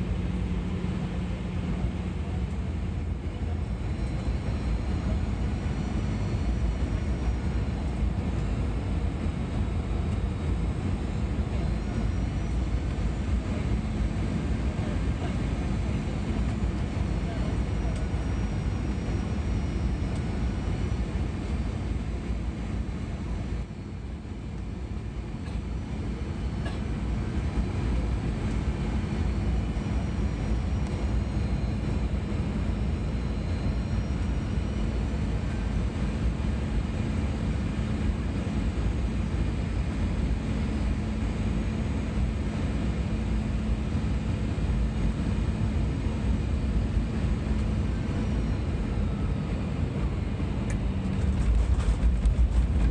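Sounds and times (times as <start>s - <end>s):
airplane cabin engine drone: 0.0s - 52.9s.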